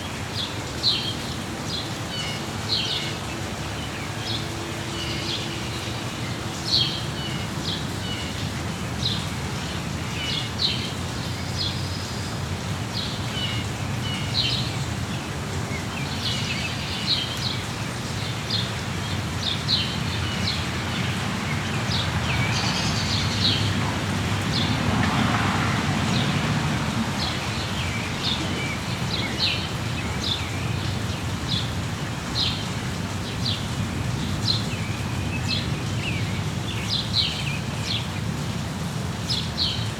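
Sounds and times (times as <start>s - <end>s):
rain falling: 0.0s - 39.9s
songbirds chirping: 0.2s - 39.9s.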